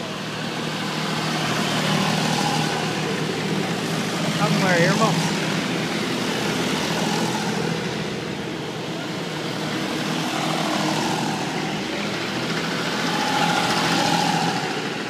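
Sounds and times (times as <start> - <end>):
tractor engines driving past: 0.0 - 15.0.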